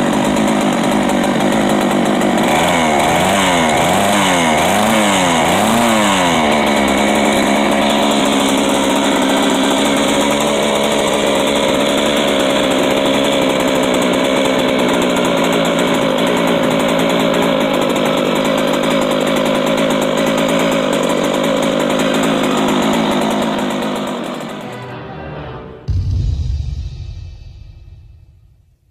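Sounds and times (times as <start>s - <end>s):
chainsaw engine revving and idling: 0.0s - 24.8s.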